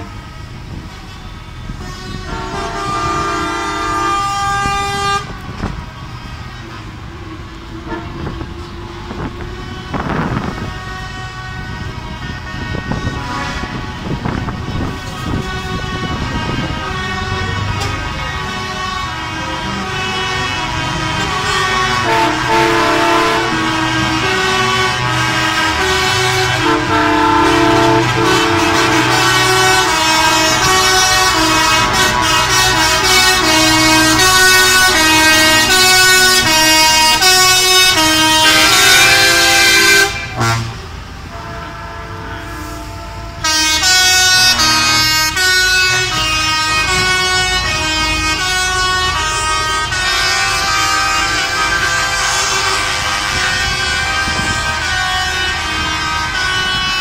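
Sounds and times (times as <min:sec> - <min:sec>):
truck engines running: 0:00.0 - 0:57.0
truck horns and air horns: 0:00.0 - 0:57.0.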